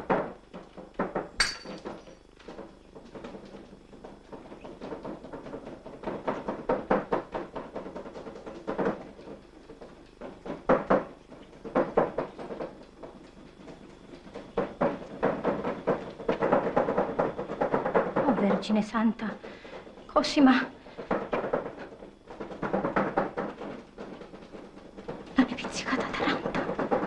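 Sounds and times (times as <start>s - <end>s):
rapid knocking and rattling: 0.0s - 27.0s.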